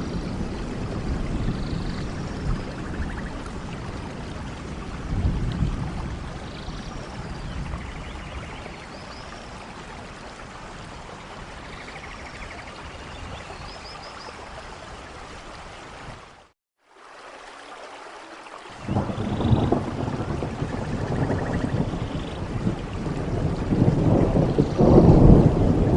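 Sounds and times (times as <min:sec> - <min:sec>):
low thunder rumble: 0:00.0 - 0:13.7, 0:18.8 - 0:25.9
heavy rain in a forest: 0:00.0 - 0:25.9.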